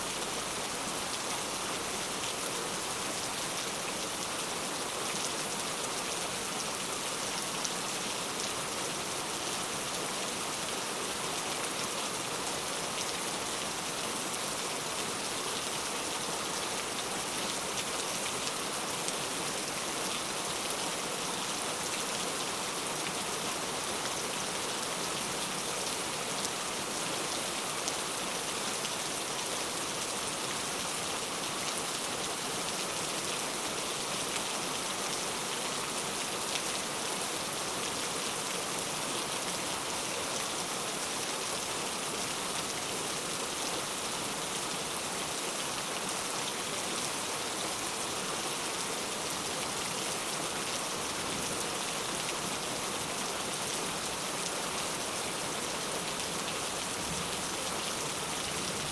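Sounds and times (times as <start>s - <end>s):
rain pattering on a surface: 0.0s - 58.9s.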